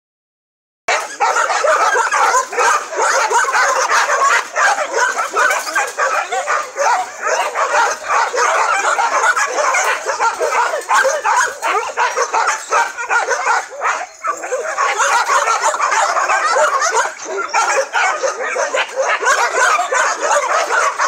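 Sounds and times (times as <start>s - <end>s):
many dogs barking and yelping: 0.9s - 21.0s.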